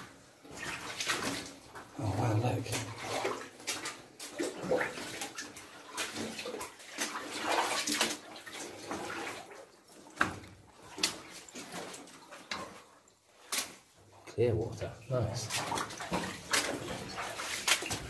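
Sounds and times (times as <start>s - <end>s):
splashing steps in water: 0.0s - 14.2s, 14.8s - 18.0s.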